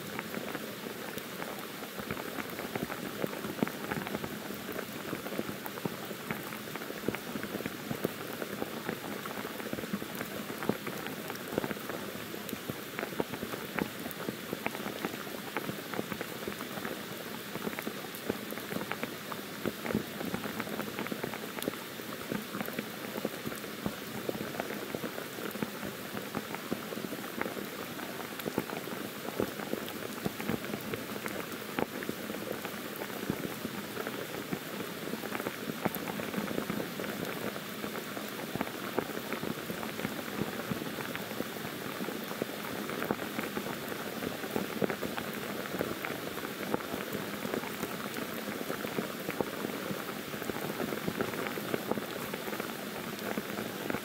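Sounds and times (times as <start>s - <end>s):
rain pouring on foliage: 0.0s - 54.0s.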